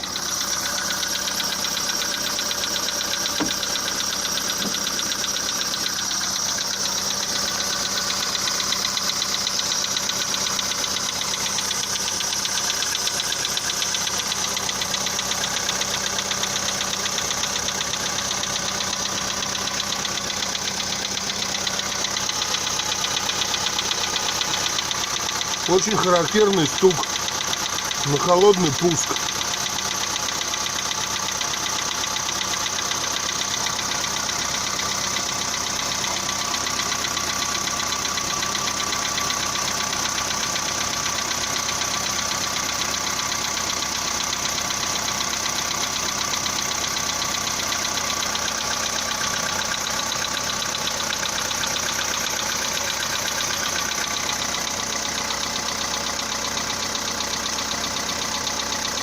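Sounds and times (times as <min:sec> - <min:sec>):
petrol engine idling: 0:00.0 - 0:59.0
fast even engine knock: 0:00.2 - 0:59.0.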